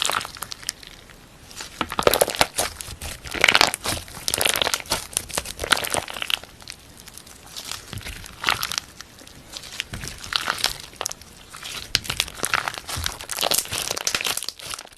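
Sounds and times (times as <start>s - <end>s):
slime crackling and popping: 0.0s - 14.9s
slime squishing: 0.0s - 14.9s.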